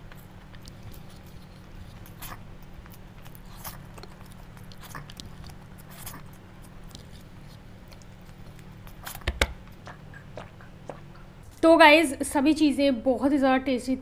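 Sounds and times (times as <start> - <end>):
wet chewing and mouth smacks: 0.0 - 11.6
steady low hum: 0.0 - 14.0.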